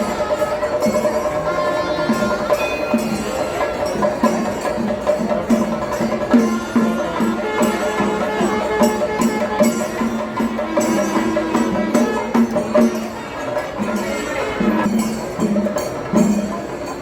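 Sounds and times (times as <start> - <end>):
steady percussive beat: 0.0 - 17.0.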